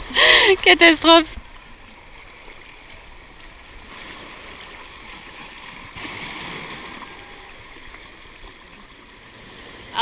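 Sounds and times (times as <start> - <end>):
seawater washing over rocks: 0.0 - 10.0.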